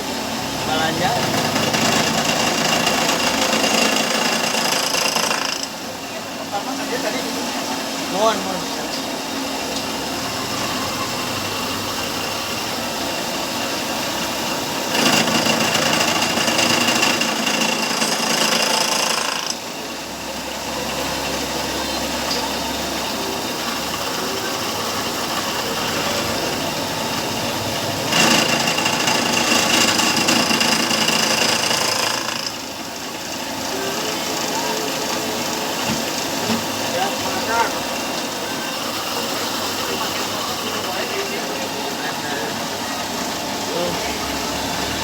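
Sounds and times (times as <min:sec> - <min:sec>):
milling machine cutting metal: 0:00.0 - 0:45.0.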